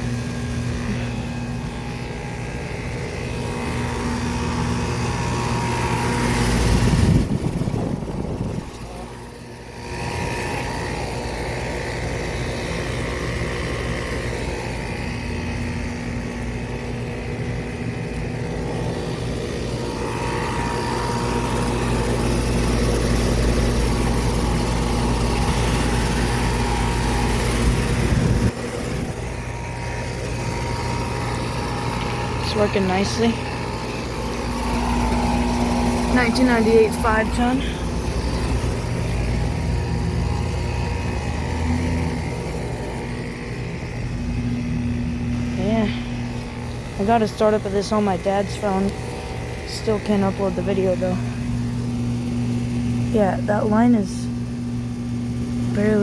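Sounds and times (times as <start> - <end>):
compressor hum: 0.0 - 56.0
condenser fan whoosh: 0.0 - 56.0.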